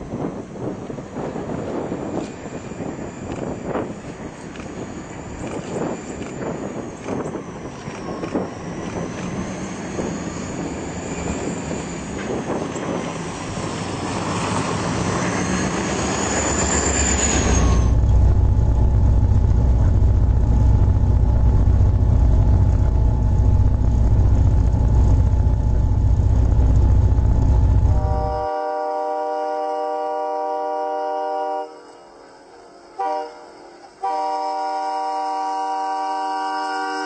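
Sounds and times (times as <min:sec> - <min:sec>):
train deep rumble: 0:00.0 - 0:37.0.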